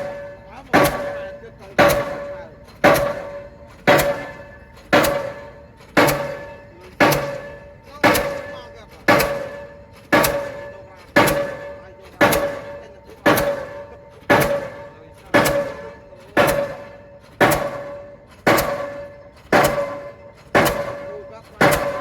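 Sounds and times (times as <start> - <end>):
pile hammer blows: 0.0 - 22.0.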